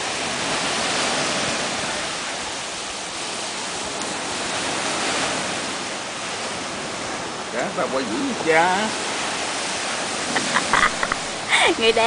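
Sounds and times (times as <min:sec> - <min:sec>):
small waves washing up beach: 0:00.0 - 0:12.0.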